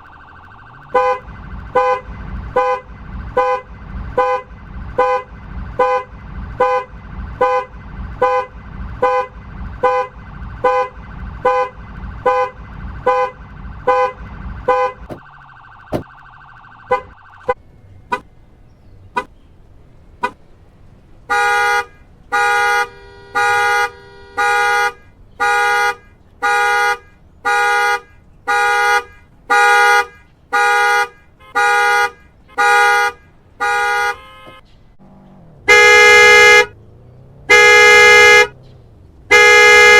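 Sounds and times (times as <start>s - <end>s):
car alarm loud blasts: 0.0s - 18.2s, 21.3s - 34.6s, 35.6s - 36.8s, 37.5s - 38.6s, 39.3s - 39.9s
car alarm beeping: 0.0s - 18.4s, 21.3s - 34.7s, 35.6s - 36.9s, 37.5s - 38.6s.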